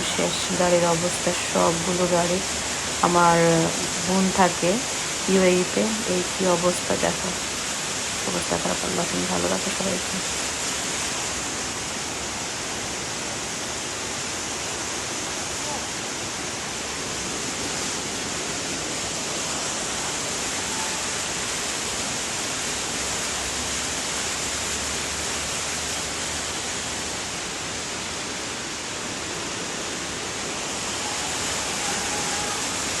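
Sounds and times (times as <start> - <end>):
water rushing: 0.0 - 33.0.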